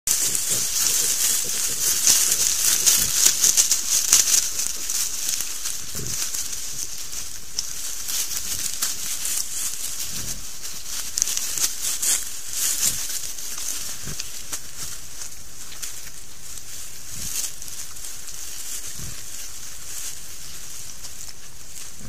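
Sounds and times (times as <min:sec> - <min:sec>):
boars rustling through dry leaves: 0:00.1 - 0:22.0
steady hiss: 0:00.1 - 0:22.0.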